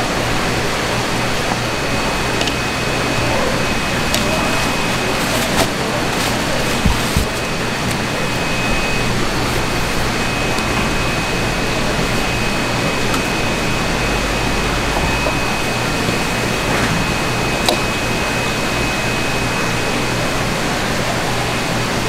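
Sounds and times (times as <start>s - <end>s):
machine high whine: 0.0s - 22.0s.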